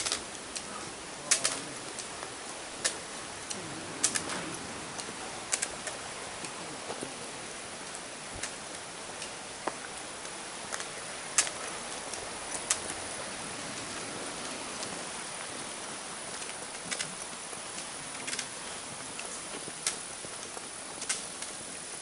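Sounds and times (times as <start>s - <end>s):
footsteps on pavement: 0.0s - 22.0s
steady outdoor hiss: 0.0s - 22.0s.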